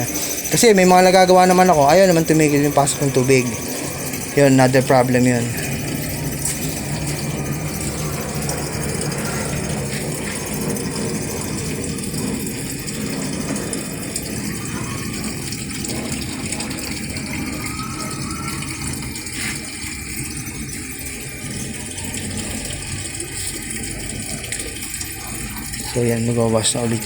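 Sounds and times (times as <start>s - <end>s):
water pouring into washing machine: 0.0s - 27.0s.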